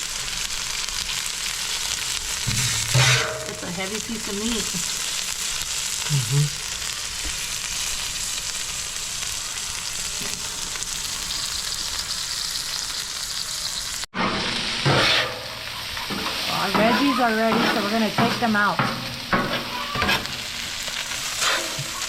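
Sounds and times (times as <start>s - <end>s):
steak sizzling on a griddle: 0.0s - 22.0s
vegetables sauteing: 0.0s - 22.0s.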